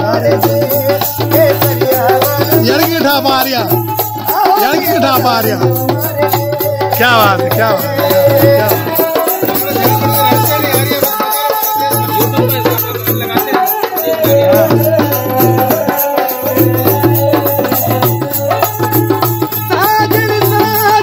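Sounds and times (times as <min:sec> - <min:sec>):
barrel drum rhythm: 0:00.0 - 0:21.0.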